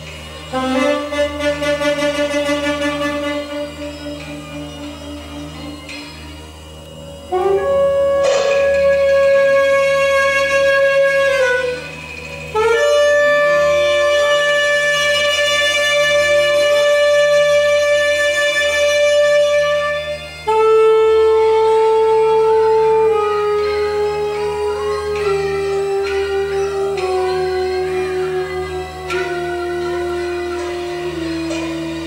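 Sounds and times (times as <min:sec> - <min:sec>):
saxophone playing long held notes: 0:00.0 - 0:32.0.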